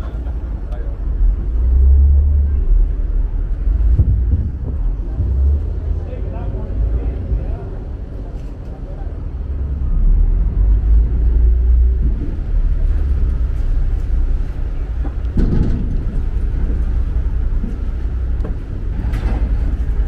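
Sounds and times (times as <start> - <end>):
ship engines rumbling: 0.0 - 20.0.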